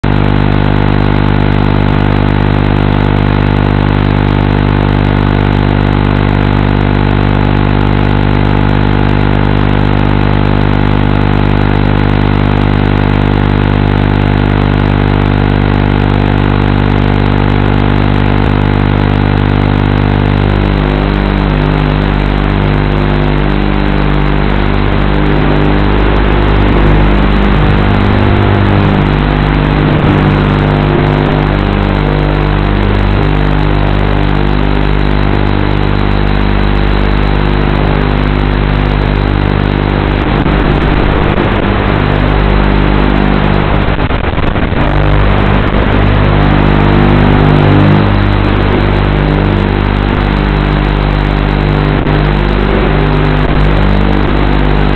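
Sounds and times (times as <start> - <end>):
drone motors humming: 0.0 - 54.9.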